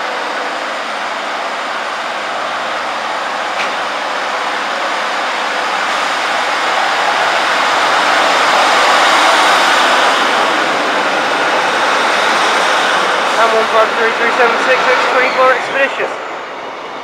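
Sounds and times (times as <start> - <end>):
diesel train engine and rail noise: 0.0 - 17.0.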